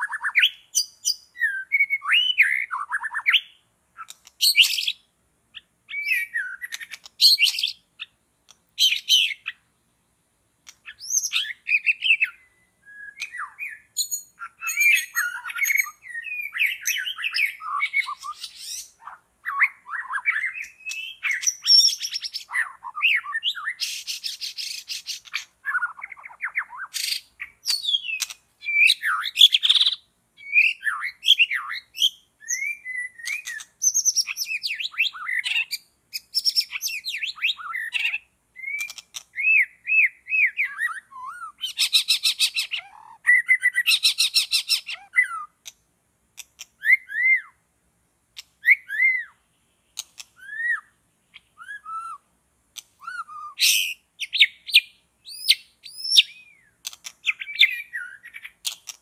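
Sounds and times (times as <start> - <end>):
songbird whistles and trills: 0.0 - 9.8, 10.6 - 45.8, 46.4 - 47.6, 48.4 - 59.0.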